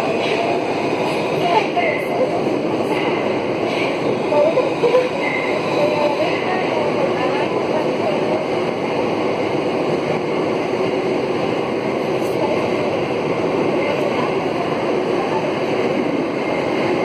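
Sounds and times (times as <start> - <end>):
metro train wheels on rails: 0.0 - 17.0.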